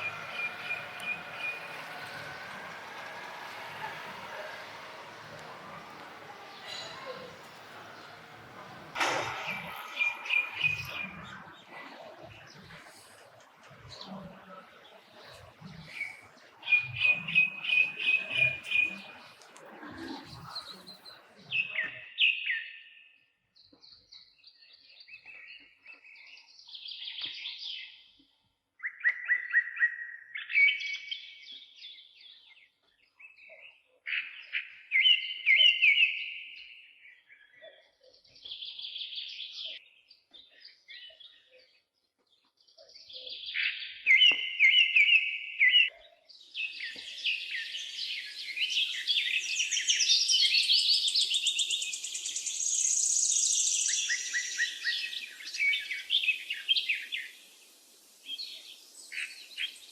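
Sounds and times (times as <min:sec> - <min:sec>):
songbird chirps and trills: 0:00.0 - 0:23.0, 0:30.8 - 0:59.9
chorus of high bird sounds: 0:00.0 - 0:28.2, 0:28.8 - 0:59.9.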